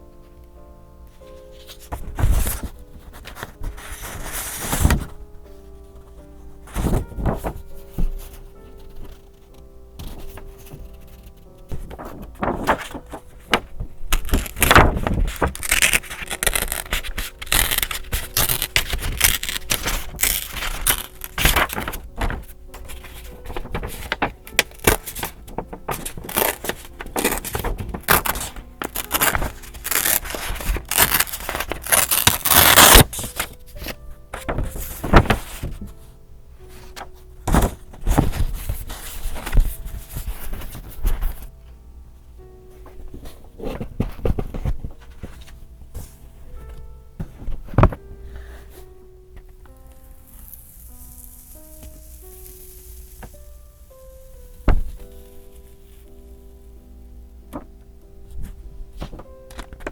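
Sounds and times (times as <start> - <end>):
faint background music: 0.0 - 59.9
paper rustling and crinkling: 1.1 - 41.5, 42.8 - 53.6, 54.4 - 56.2, 57.5 - 59.9.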